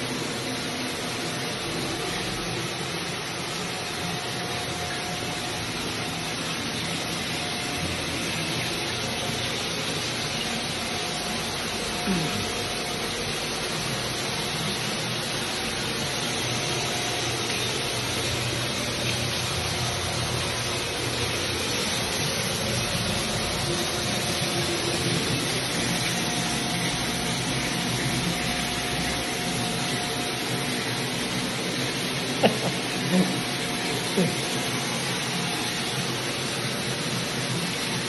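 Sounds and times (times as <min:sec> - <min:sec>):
water rushing through pipes: 0:00.0 - 0:38.0.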